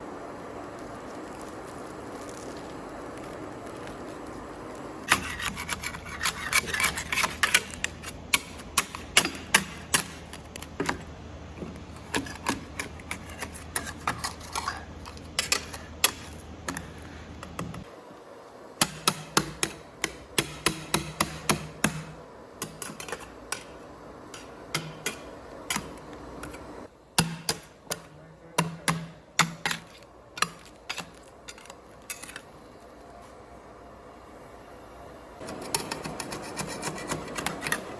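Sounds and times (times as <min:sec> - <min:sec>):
low machine hum: 0:00.0 - 0:37.9.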